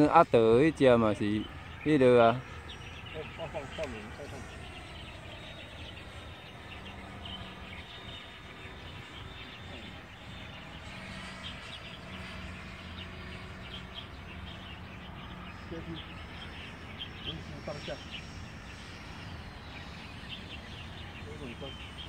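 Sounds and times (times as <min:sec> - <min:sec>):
birds chirping: 0:00.0 - 0:22.0
distant electric fan whine: 0:00.0 - 0:22.0
outdoor background noise: 0:00.0 - 0:22.0.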